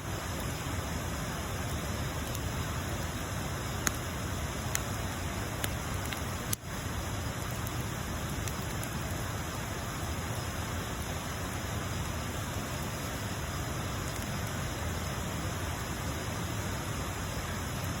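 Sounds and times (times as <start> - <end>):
fire popping and crackling: 0.0 - 16.2
bonfire flames hissing: 0.0 - 18.0.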